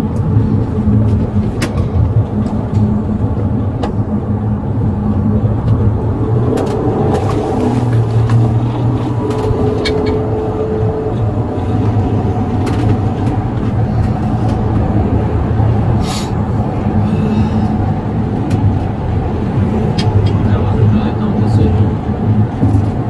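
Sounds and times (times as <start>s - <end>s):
vehicle engine hum and road noise: 0.0s - 23.0s.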